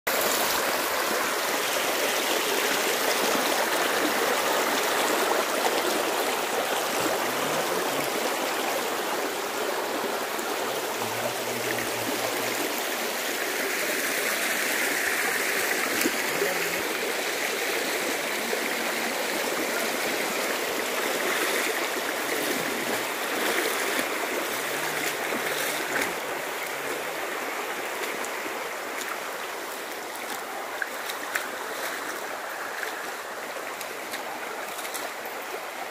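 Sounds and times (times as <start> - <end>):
river water rushing over rocks: 0.1 - 35.9.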